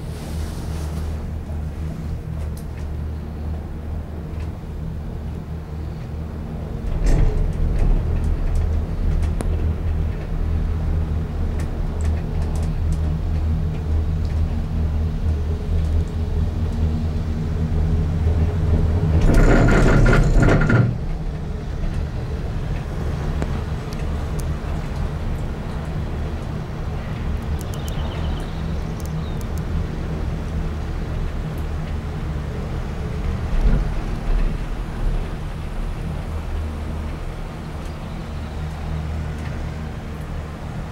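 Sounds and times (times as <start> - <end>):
gondola cabin rumble and hum: 0.0 - 40.9.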